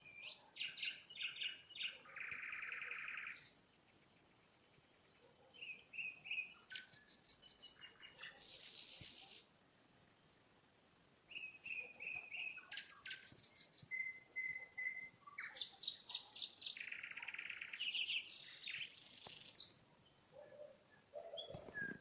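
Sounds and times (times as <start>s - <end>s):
songbird chirping and trilling: 0.0s - 9.6s, 11.1s - 22.0s.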